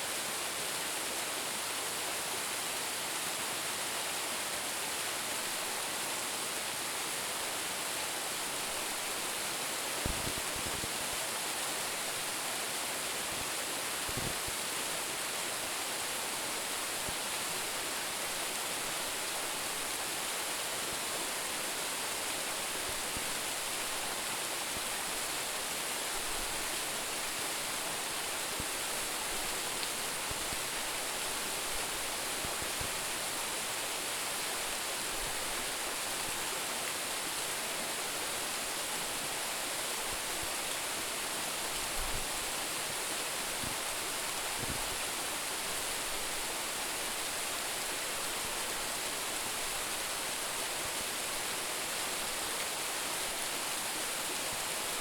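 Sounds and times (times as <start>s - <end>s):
waterfall hissing: 7.6s - 55.0s.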